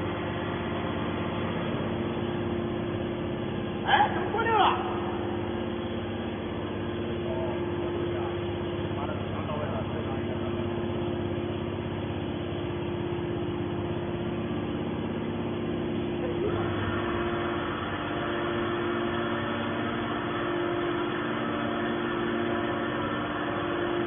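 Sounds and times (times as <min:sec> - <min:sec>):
hydraulic power unit hum: 0:00.0 - 0:24.0.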